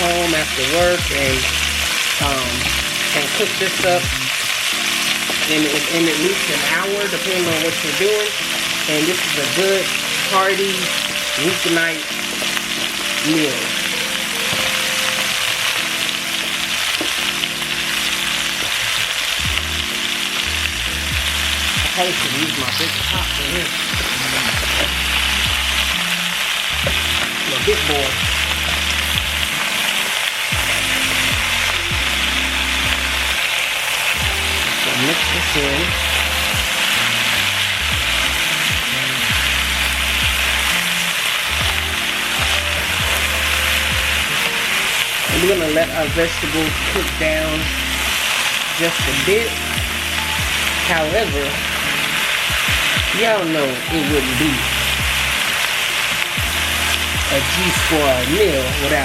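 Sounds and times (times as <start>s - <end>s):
background music: 0.0s - 59.0s
vegetables sizzling in a pan: 0.0s - 59.0s.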